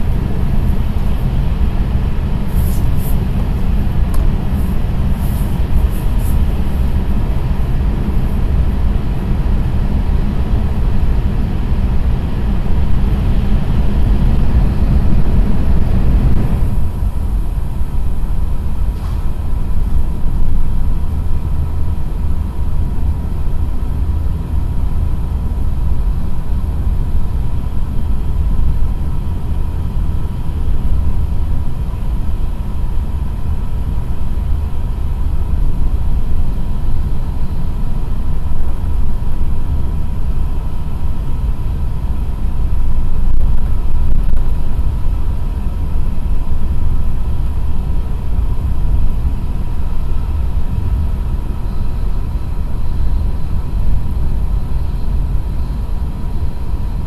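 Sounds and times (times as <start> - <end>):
thin steady whine: 0.0 - 57.0
train low running rumble: 0.0 - 57.0.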